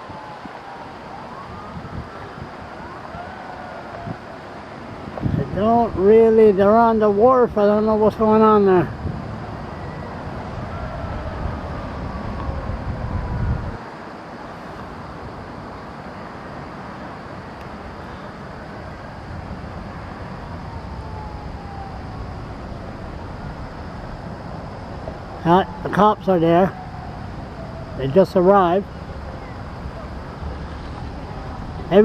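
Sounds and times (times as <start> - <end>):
distant traffic rumble: 0.0 - 32.0.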